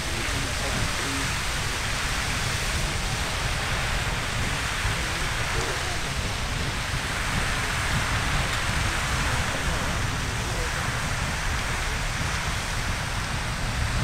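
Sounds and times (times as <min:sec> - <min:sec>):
geyser water jet rushing: 0:00.0 - 0:14.0.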